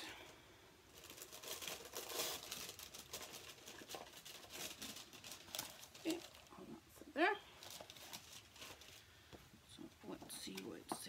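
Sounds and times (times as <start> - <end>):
wrapping rustling and crackling: 0.8 - 10.8.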